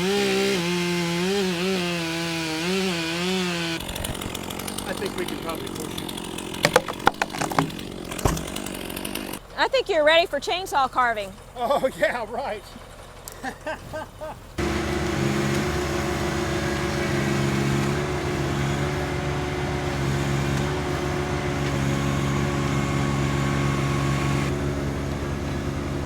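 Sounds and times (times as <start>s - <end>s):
engine droning: 0.0s - 26.0s.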